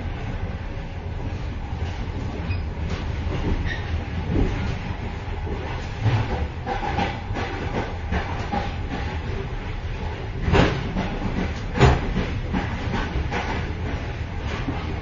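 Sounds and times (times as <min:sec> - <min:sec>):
loud train clanks: 0:00.0 - 0:15.0
train running gear rumbling: 0:00.0 - 0:15.0.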